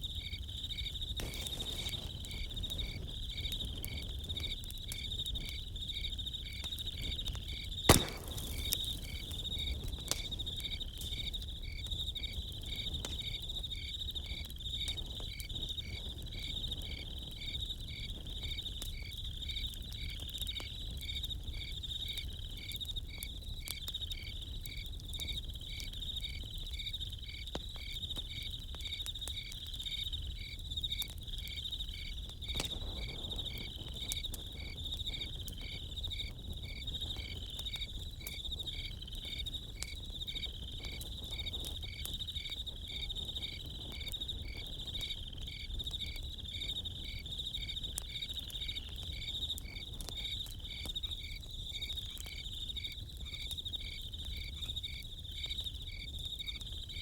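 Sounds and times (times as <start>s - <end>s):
campfire crackling: 0.0s - 57.0s
crickets chirping: 0.0s - 57.0s
insect pulsed chirp: 0.0s - 57.0s.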